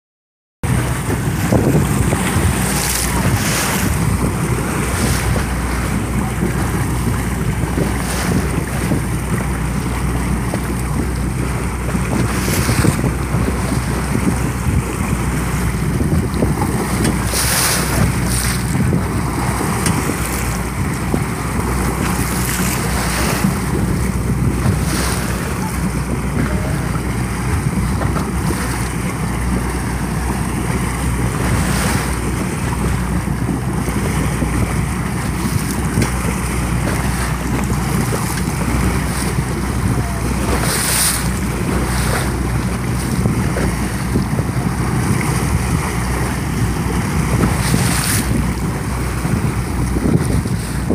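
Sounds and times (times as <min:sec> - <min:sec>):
boat engine drone: 0:00.6 - 0:50.9
rushing water: 0:00.6 - 0:50.9
wind buffeting microphone: 0:00.6 - 0:50.9.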